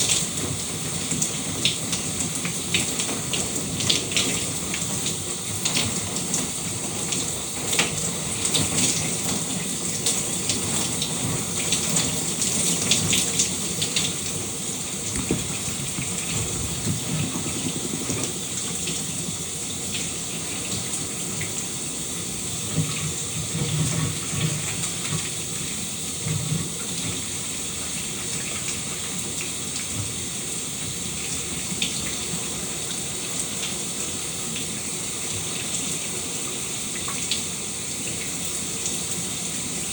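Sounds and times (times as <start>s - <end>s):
shower running: 0.0s - 39.9s
water drips and splashes: 0.0s - 39.9s.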